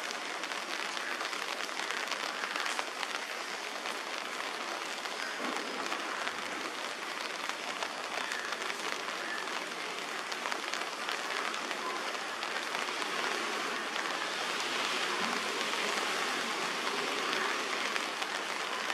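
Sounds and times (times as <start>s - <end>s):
light rain pattering: 0.0s - 18.9s.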